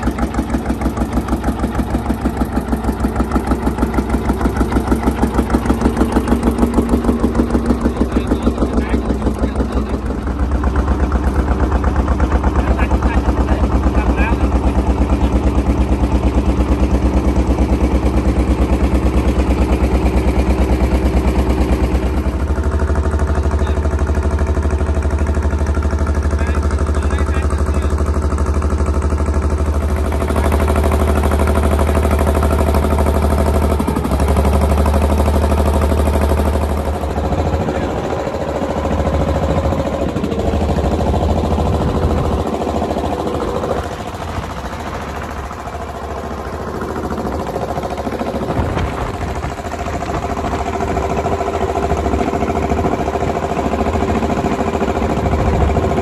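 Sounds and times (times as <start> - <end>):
boat engine humming: 0.0 - 56.0
water rushing along hull: 0.0 - 56.0.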